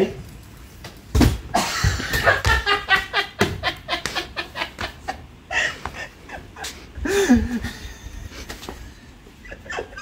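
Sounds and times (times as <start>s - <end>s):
person laughing: 1.6s - 10.0s.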